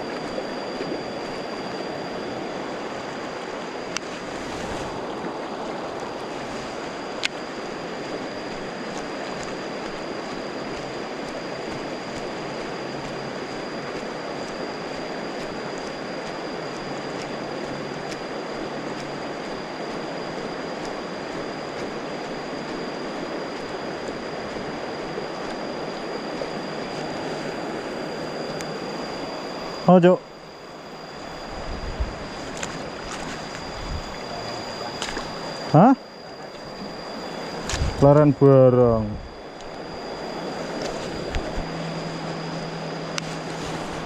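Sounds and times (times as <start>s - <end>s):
flowing river water: 0.0s - 44.0s
thin high tone: 0.0s - 44.0s.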